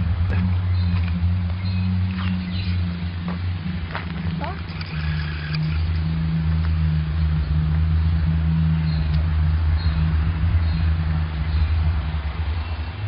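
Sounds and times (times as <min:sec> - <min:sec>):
loud low drone in sky: 0:00.0 - 0:13.0.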